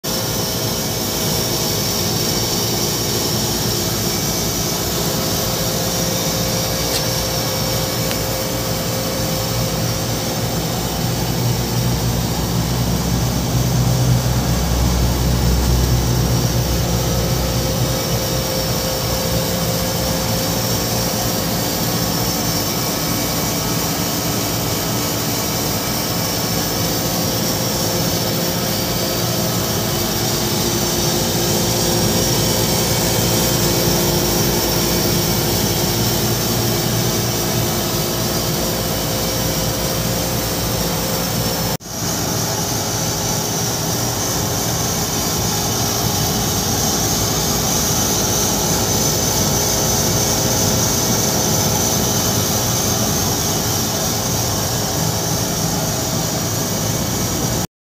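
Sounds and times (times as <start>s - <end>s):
condensing unit low hum: 0.0s - 57.7s.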